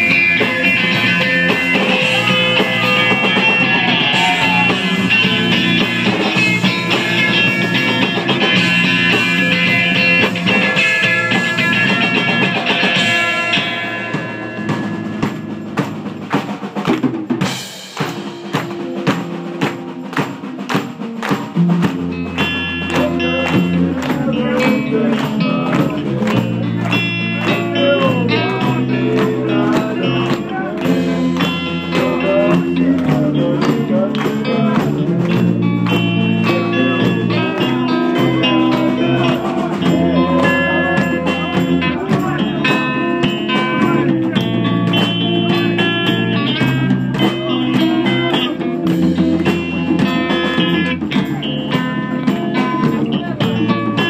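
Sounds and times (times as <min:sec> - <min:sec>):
bass line: 0:00.0 - 0:54.0
drum kit: 0:00.0 - 0:54.0
electric guitar: 0:00.0 - 0:54.0.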